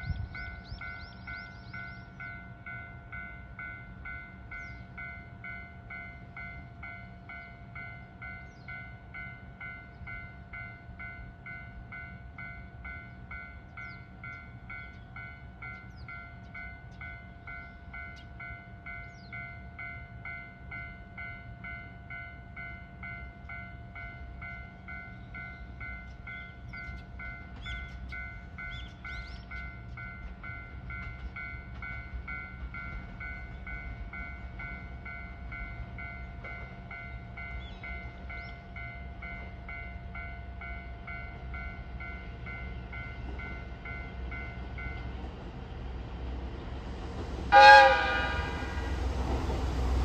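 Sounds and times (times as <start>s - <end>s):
level crossing warning bell: 0.0s - 45.3s.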